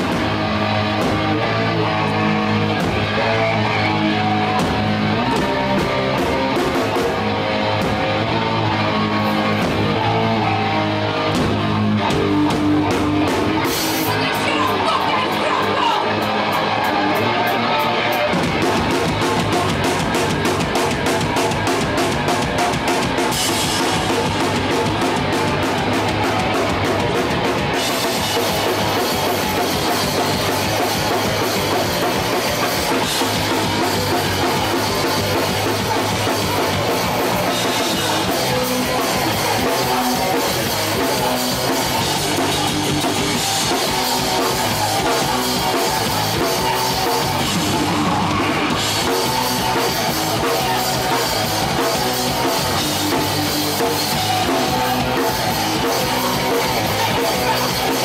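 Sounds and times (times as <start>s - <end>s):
bass: 0.0s - 58.0s
distorted electric guitar: 0.0s - 58.0s
pounding drum kit: 0.0s - 58.0s.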